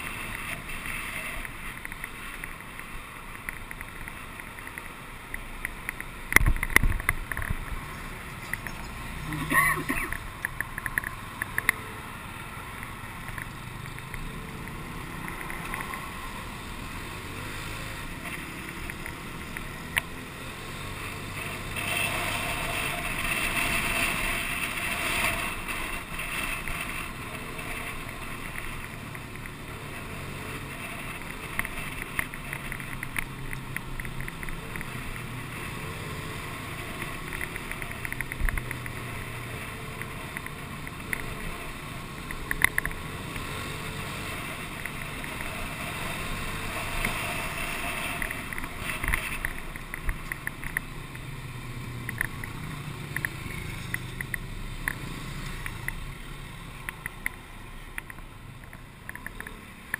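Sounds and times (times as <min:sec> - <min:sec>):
motorcycle engine hum: 0:00.0 - 0:59.9
road and wind noise: 0:00.0 - 0:59.9.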